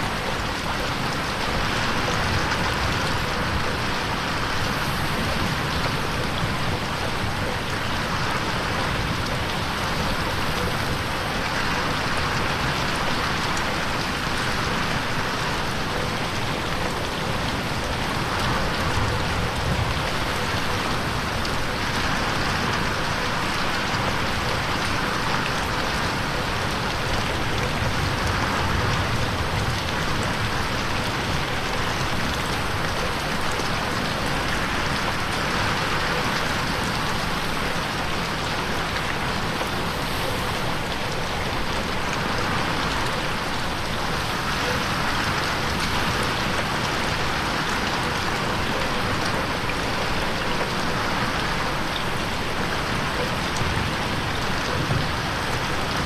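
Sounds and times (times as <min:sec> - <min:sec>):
rain on a window pane: 0:00.0 - 0:56.0.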